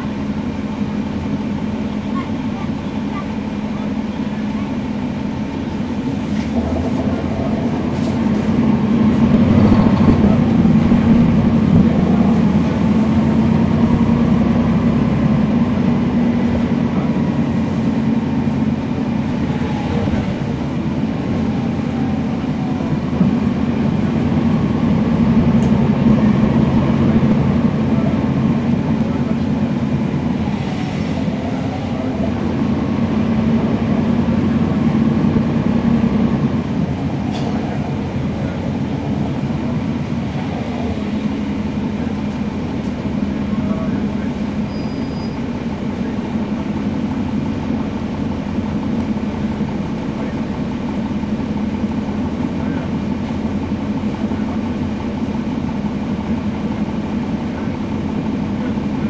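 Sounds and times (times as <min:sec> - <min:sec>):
bus diesel engine drone: 0:00.0 - 0:59.0.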